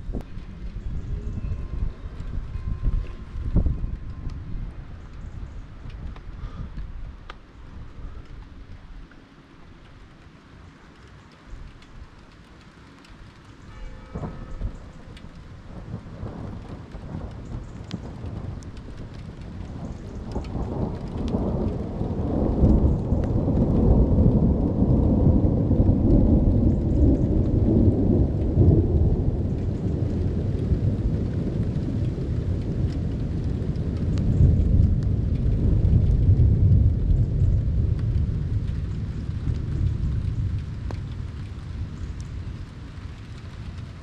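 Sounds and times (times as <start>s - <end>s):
light rain pattering: 0.0s - 44.0s
thunder rumbling: 0.0s - 44.0s.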